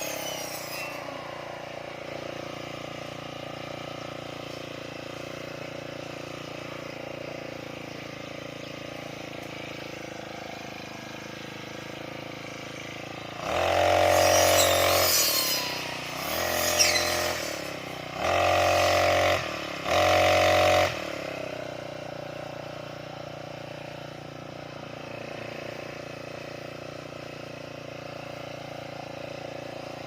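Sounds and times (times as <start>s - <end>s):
brush cutter engine revving: 0.0s - 30.0s.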